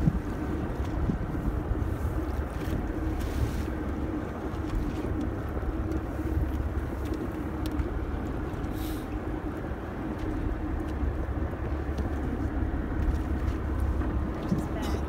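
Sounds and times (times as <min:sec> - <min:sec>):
boat engine rumbling: 0:00.0 - 0:15.0
wind: 0:00.0 - 0:15.0.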